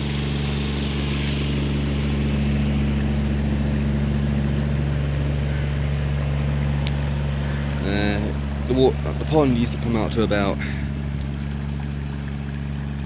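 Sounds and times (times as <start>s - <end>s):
low engine-like hum: 0.0s - 13.0s
waterfall rushing into pond: 0.0s - 13.0s.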